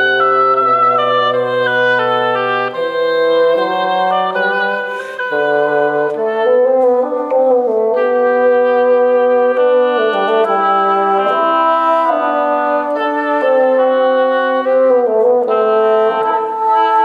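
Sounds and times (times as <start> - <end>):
bassoon: 0.0 - 17.0
oboe: 0.0 - 17.0.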